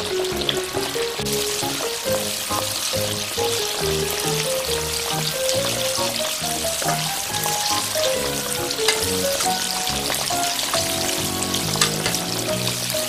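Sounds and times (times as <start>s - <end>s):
deep-frying sizzle with pops: 0.0s - 13.0s
gentle background melody: 0.0s - 13.0s.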